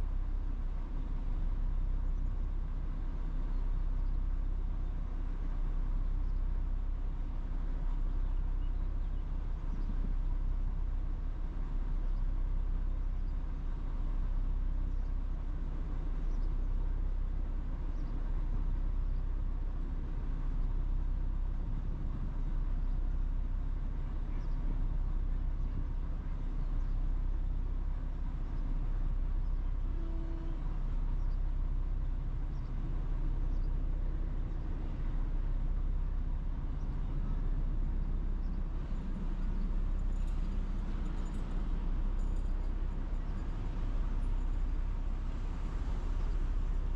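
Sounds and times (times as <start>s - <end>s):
steady low rumble: 0.0s - 46.9s.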